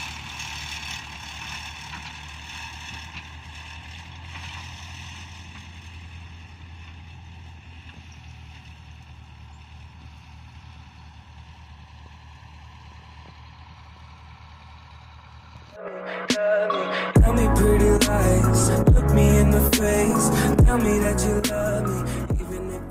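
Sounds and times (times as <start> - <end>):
diesel engine running: 0.0 - 15.8, 17.0 - 22.9.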